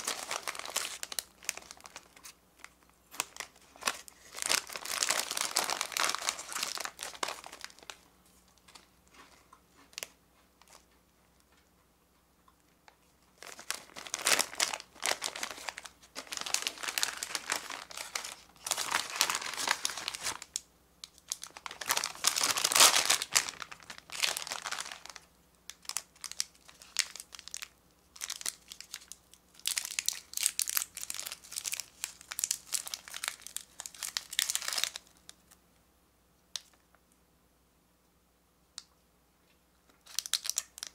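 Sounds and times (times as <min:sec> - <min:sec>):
plastic wrappers crinkling: 0:00.0 - 0:10.9, 0:13.0 - 0:35.6, 0:39.9 - 0:40.9.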